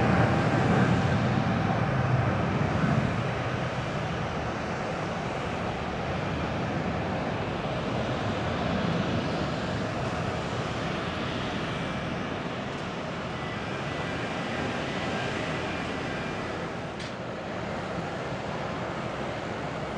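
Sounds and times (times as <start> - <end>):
jet engines at takeoff: 0.0 - 19.9.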